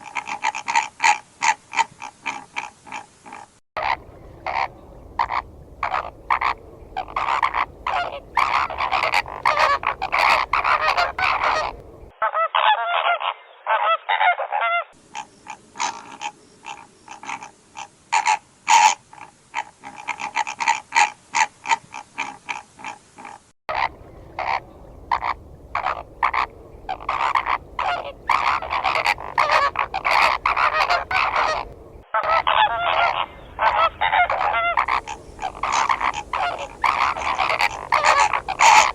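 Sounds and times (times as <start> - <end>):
flamingos honking: 0.0 - 38.9.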